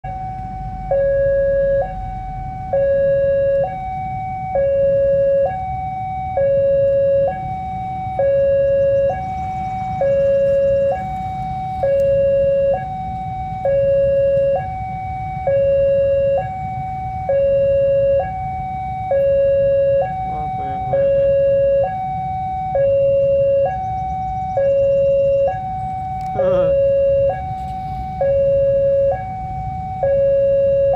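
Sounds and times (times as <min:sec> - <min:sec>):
level-crossing two-tone alarm: 0:00.0 - 0:30.9
low traffic rumble: 0:00.0 - 0:30.9.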